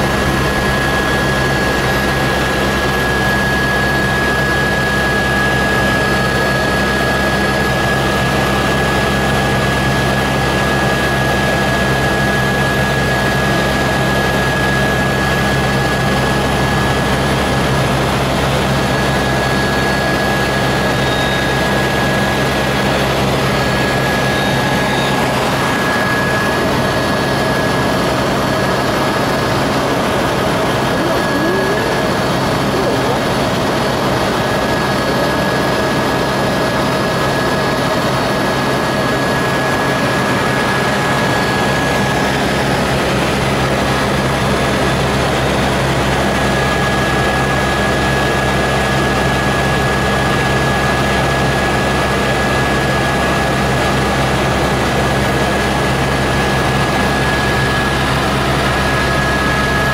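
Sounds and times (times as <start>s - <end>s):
helicopter engine and rotor noise: 0.0s - 59.9s.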